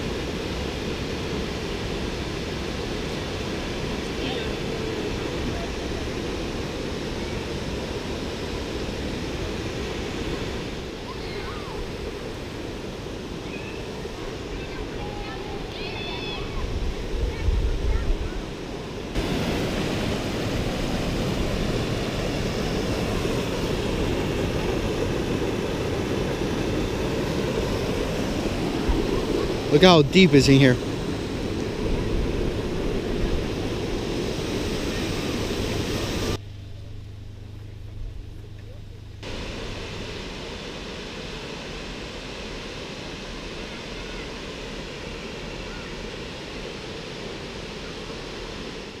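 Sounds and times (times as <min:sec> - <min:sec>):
waterfall roar: 0:00.0 - 0:36.4, 0:39.2 - 0:49.0.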